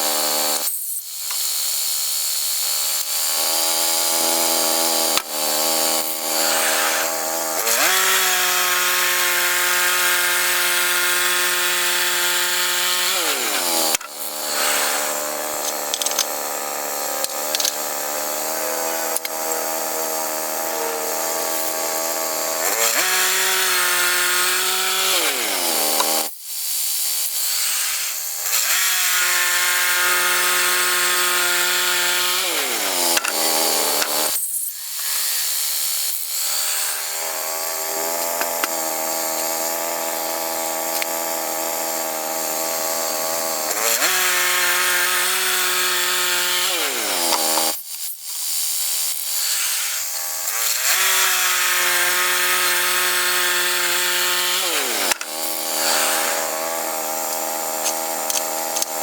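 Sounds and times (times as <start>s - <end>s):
sawmill gas engine revving: 0.0s - 0.7s, 2.7s - 26.3s, 27.7s - 34.4s, 36.3s - 47.8s, 49.9s - 59.0s.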